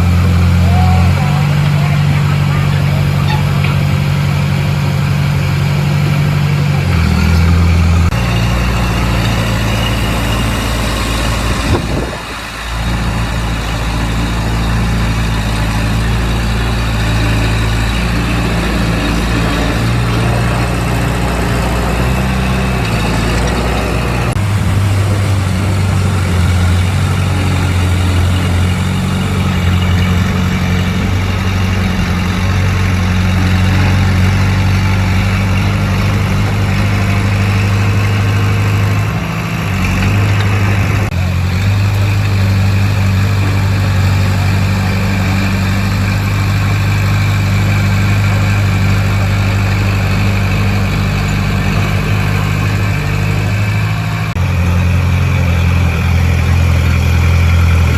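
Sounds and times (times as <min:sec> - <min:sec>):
heavy diesel machine engine running: 0:00.0 - 0:57.9.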